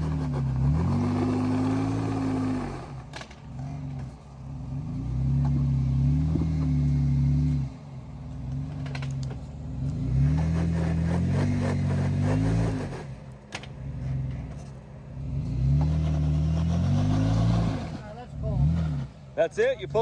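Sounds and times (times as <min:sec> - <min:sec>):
jeep engine revving: 0:00.0 - 0:20.0.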